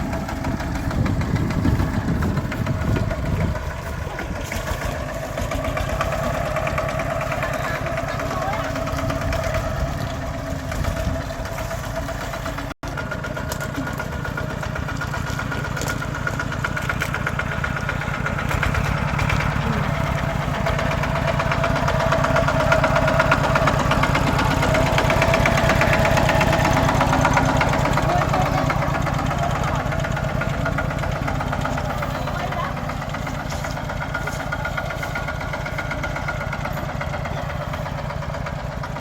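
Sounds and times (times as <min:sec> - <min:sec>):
tractor engine chugging: 0:00.0 - 0:39.0.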